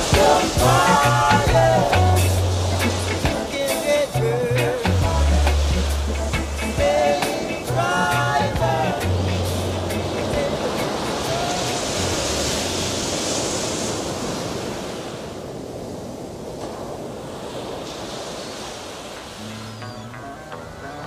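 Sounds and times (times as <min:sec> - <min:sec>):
ocean waves breaking and washing: 0:00.0 - 0:21.0.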